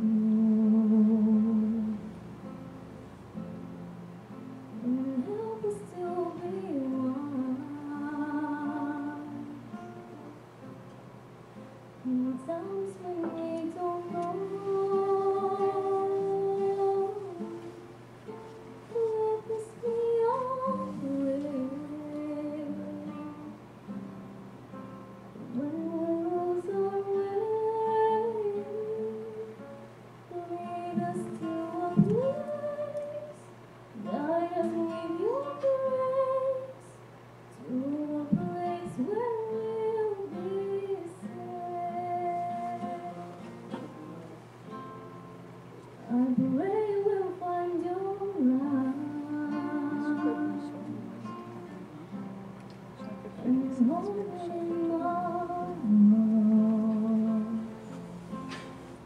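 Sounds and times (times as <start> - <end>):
woman singing into a microphone: 0.0 - 2.2, 4.7 - 9.8, 12.0 - 23.7, 25.4 - 44.2, 46.0 - 51.6, 53.4 - 58.0
plucked acoustic guitar: 0.0 - 59.0.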